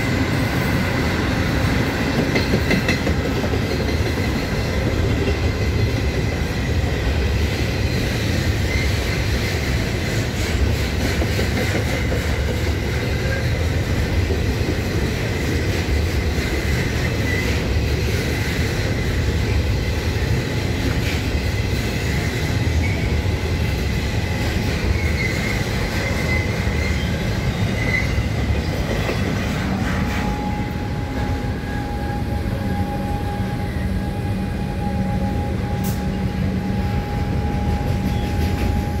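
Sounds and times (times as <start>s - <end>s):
goods train rumbling on rails: 0.0s - 39.0s.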